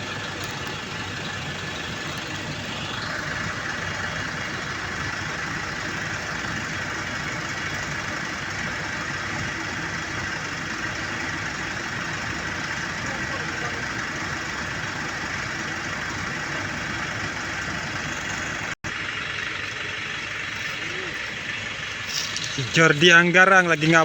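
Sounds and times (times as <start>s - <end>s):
machinery engine running: 0.0s - 24.0s.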